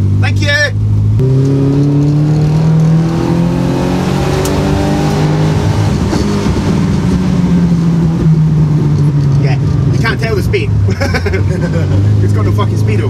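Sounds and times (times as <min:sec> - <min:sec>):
car engine heard from cabin: 0:00.0 - 0:13.0.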